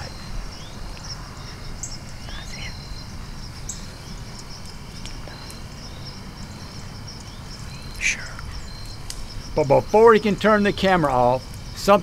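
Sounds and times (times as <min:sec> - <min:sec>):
faint rising calls: 0:00.0 - 0:11.4
crickets and insects calling: 0:00.0 - 0:12.0.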